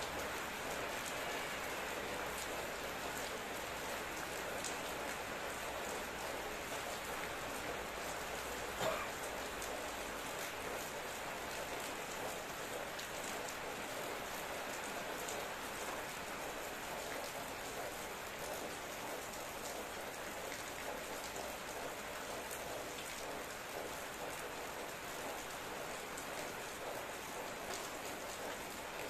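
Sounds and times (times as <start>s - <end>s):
rain pattering: 0.0s - 29.0s
raindrops ticking on surfaces: 0.0s - 29.0s.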